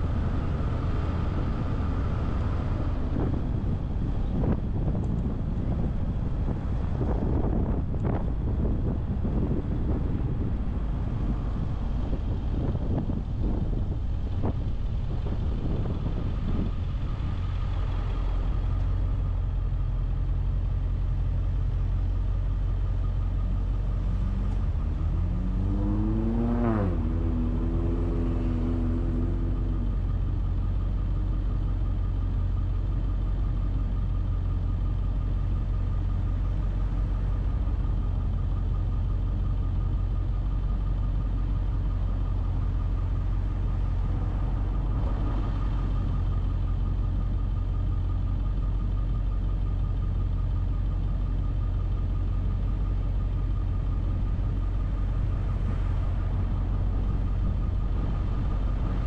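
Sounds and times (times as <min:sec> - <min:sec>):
engine accelerating: 0:00.0 - 0:19.8, 0:22.8 - 0:32.7, 0:33.4 - 0:59.0
car engine and road rumble: 0:00.0 - 0:59.0.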